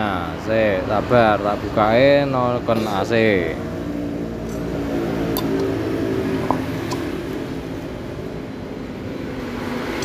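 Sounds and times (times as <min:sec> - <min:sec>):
engine humming: 0:01.4 - 0:10.0.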